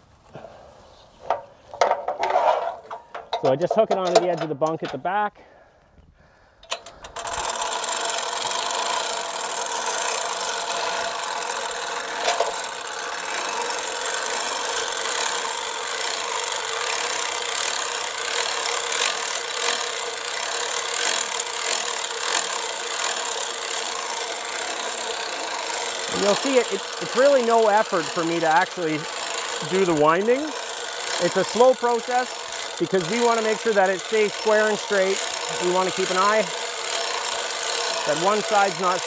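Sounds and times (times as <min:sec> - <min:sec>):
hand-crank winch grinding: 0:01.3 - 0:05.0, 0:06.6 - 0:39.0.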